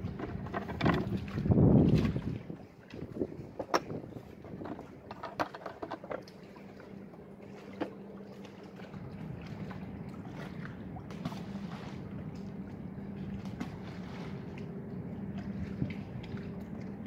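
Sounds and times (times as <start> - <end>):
light clicks and knocks of tackle: 0.0 - 17.0
steady low hum: 0.0 - 17.0.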